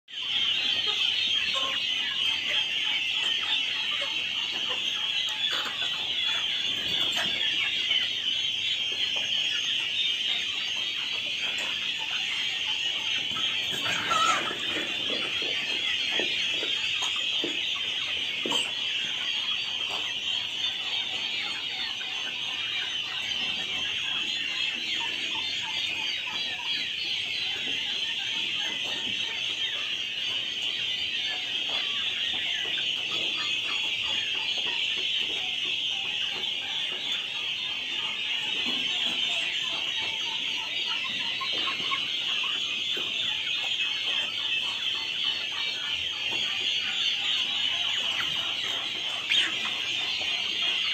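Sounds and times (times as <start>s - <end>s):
chickens clucking: 0.1s - 50.9s
chicks peeping: 0.1s - 50.9s.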